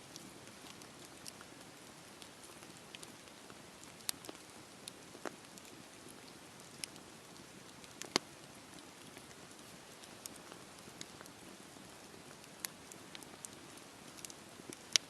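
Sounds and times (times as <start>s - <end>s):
campfire crackling and popping: 0.1s - 15.0s.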